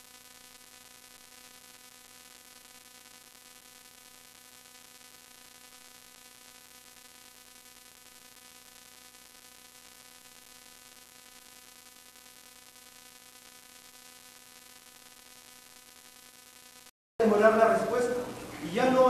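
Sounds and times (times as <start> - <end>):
electrical hiss: 0.0 - 19.0
low electrical hum: 0.0 - 19.0.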